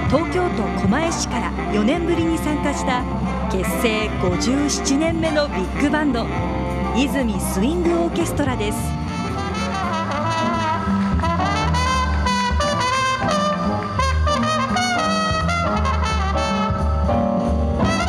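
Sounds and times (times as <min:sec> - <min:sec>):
brass and saxophone section: 0:00.0 - 0:18.0
drums: 0:00.0 - 0:18.0
upright bass: 0:00.0 - 0:18.0.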